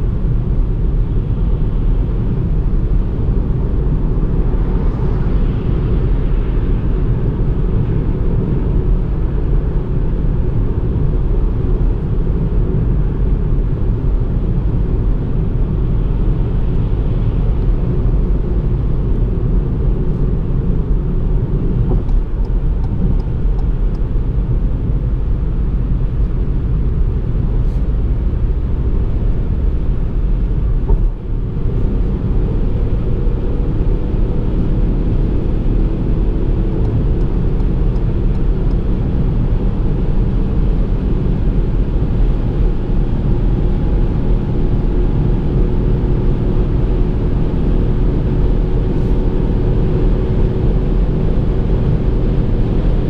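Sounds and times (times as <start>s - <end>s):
car engine cruising: 0.0s - 53.0s
road and wind noise: 0.0s - 53.0s.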